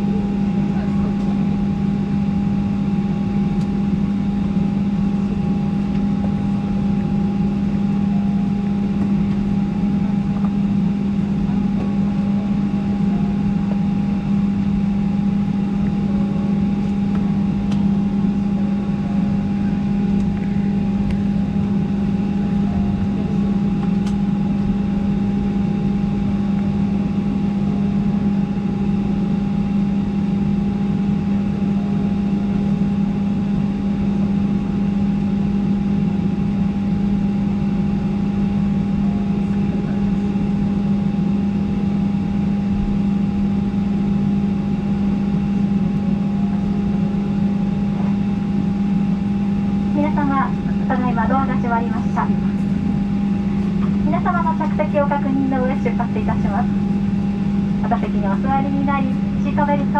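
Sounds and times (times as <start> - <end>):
ventilation air rush: 0.0 - 34.1, 36.8 - 59.9
aircraft cabin low drone: 0.0 - 59.9
thin steady whine: 0.0 - 59.9.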